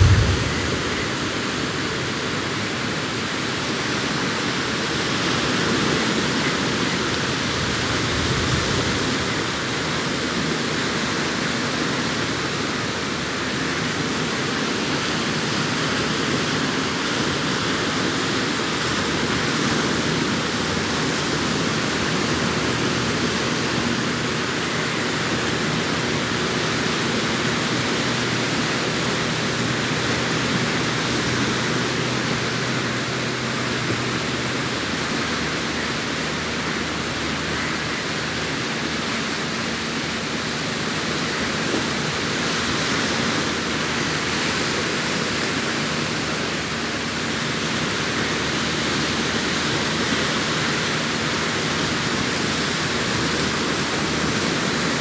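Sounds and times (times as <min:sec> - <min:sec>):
waves breaking on beach: 0:00.0 - 0:02.7, 0:05.7 - 0:55.0.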